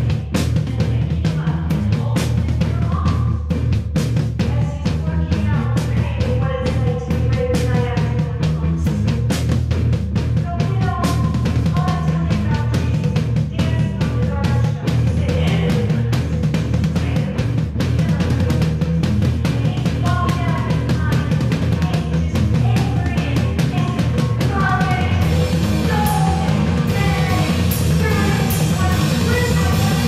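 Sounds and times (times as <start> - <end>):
fast driving drum beat: 0.0 - 30.0
rock music: 0.0 - 30.0
steady bass line: 0.0 - 30.0.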